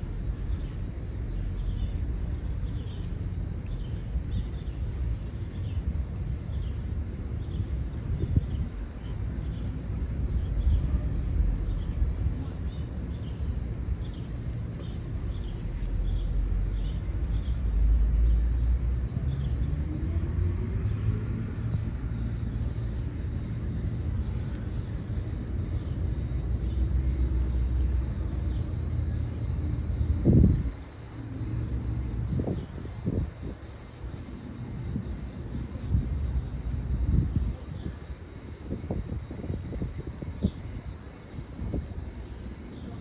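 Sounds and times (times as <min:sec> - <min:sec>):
insects chirping: 0:00.0 - 0:43.0.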